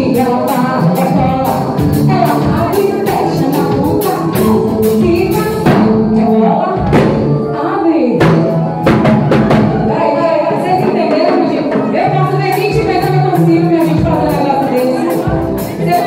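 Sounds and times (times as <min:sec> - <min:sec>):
steady drum beat: 0:00.0 - 0:07.4, 0:08.2 - 0:16.0
woman singing into a microphone: 0:00.0 - 0:08.3, 0:09.4 - 0:16.0
live band playing: 0:00.0 - 0:16.0.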